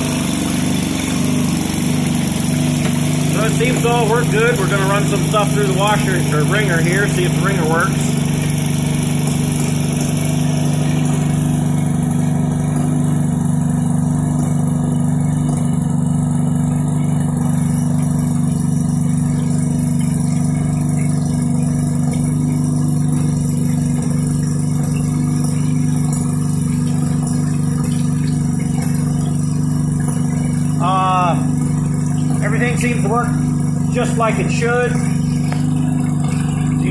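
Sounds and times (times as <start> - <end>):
two-stroke engine running: 0.0 - 36.9.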